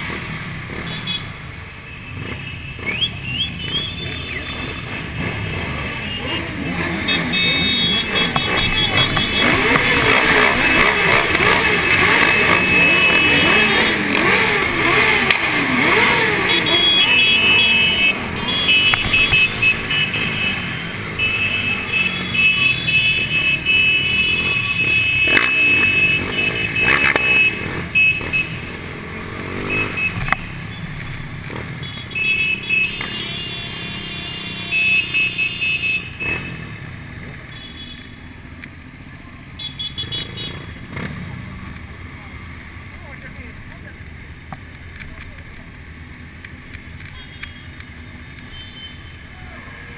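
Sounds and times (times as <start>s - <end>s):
motorcycle engines revving: 0.0s - 49.9s.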